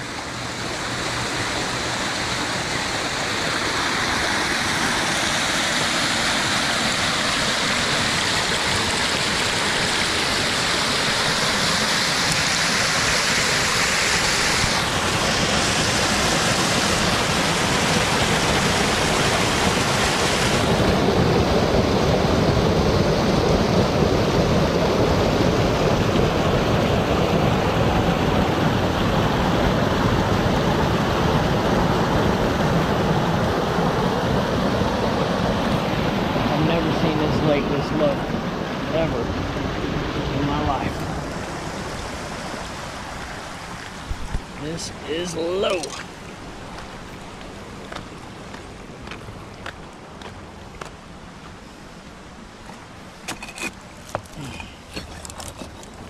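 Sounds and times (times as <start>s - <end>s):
water rushing over a dam spillway: 0.0s - 56.0s.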